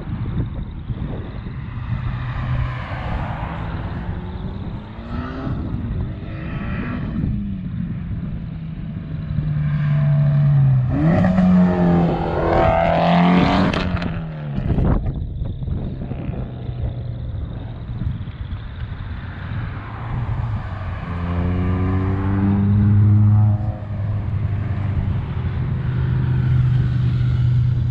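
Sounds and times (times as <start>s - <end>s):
car engine revving: 0.9s - 27.9s.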